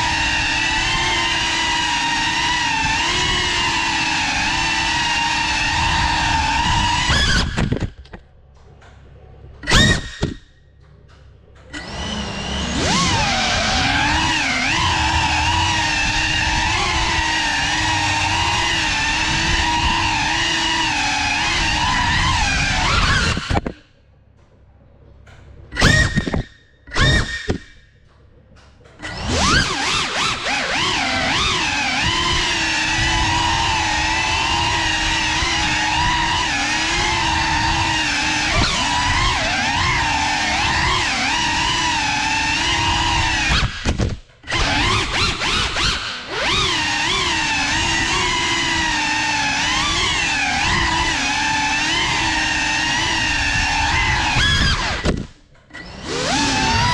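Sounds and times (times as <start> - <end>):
drone motors whining: 0.0 - 56.9.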